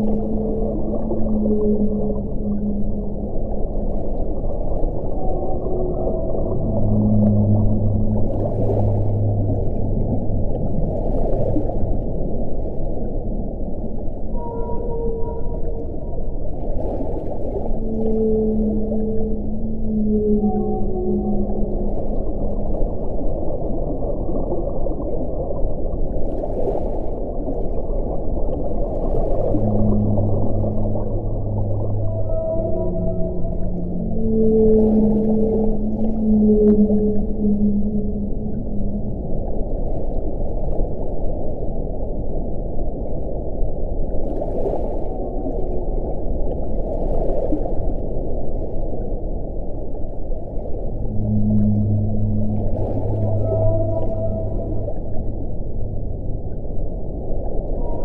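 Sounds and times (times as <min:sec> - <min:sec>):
low moaning tone: 0:00.0 - 0:25.9, 0:27.8 - 0:41.0, 0:44.9 - 0:47.0, 0:50.2 - 0:58.0
low rumbling wind: 0:00.0 - 0:58.0.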